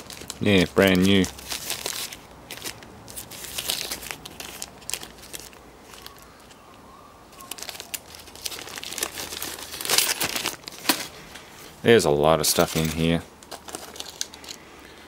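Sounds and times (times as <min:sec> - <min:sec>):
plastic bags crinkling: 0:00.0 - 0:06.6, 0:07.3 - 0:11.6, 0:12.2 - 0:15.0.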